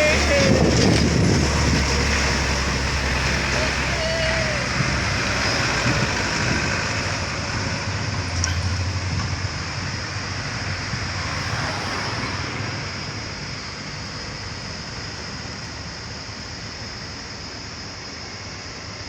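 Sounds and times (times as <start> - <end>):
diesel truck engine under load: 0.0 - 17.1
road noise: 0.0 - 19.0.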